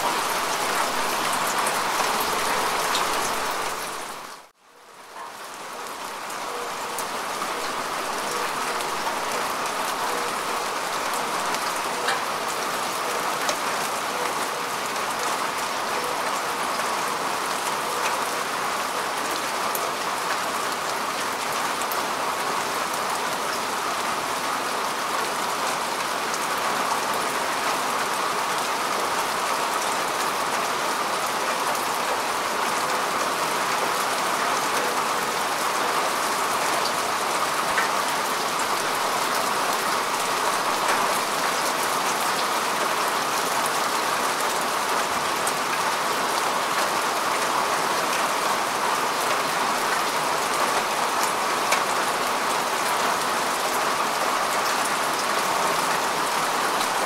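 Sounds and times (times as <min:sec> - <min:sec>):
rain falling on grass: 0:00.0 - 0:57.0.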